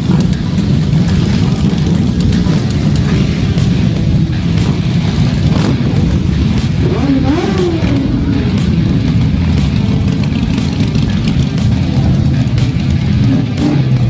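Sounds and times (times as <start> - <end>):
superbike engine running: 0.0 - 14.0.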